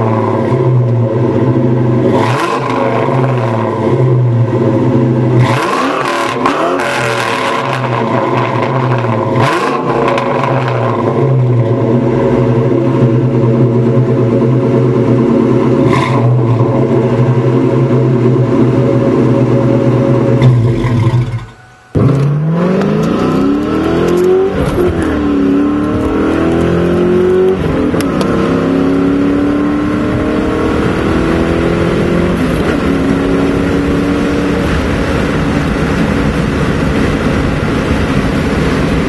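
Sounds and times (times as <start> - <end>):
car engine idling: 0.0 - 5.5, 7.6 - 39.0
car engine accelerating hard: 0.0 - 39.0.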